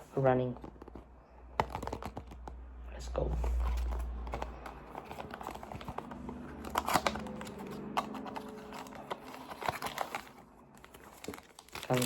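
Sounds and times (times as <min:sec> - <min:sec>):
packaging rustling and clicking: 0:00.5 - 0:02.6, 0:03.4 - 0:12.0
packaging clatter: 0:00.6 - 0:02.5, 0:03.4 - 0:12.0.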